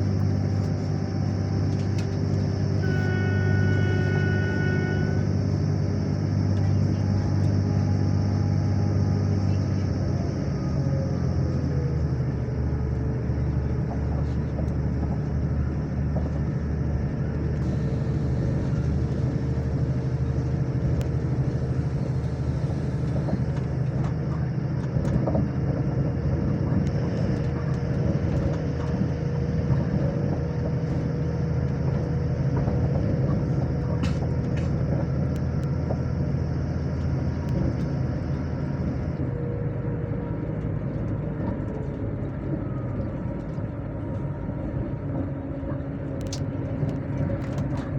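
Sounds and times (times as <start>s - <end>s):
constant hum: 0.0s - 47.9s
train wheels rumbling on track: 0.0s - 47.9s.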